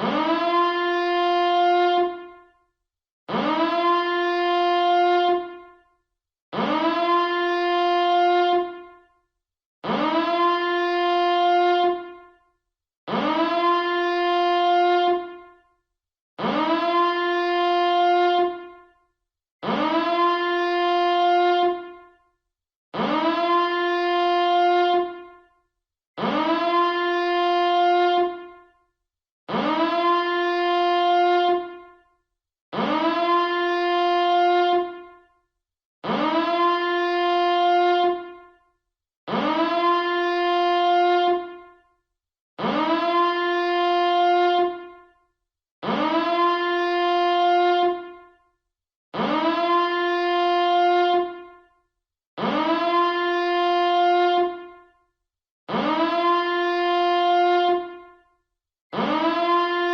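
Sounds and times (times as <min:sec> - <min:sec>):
alarm siren blasts: 0:00.0 - 0:02.7, 0:03.3 - 0:05.9, 0:06.5 - 0:09.2, 0:09.8 - 0:15.8, 0:16.4 - 0:19.0, 0:19.6 - 0:22.3, 0:23.0 - 0:25.6, 0:26.2 - 0:28.9, 0:29.5 - 0:32.1, 0:32.7 - 0:35.4, 0:36.0 - 0:41.9, 0:42.6 - 0:45.2, 0:45.8 - 0:48.6, 0:49.2 - 0:51.8, 0:52.4 - 0:55.1, 0:55.7 - 0:59.9.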